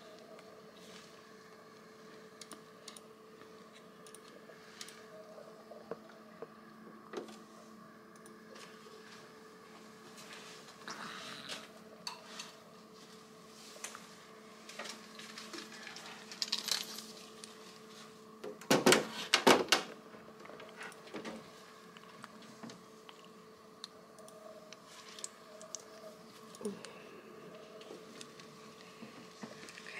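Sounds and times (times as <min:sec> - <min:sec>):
faint equipment hum: 0:00.0 - 0:29.9.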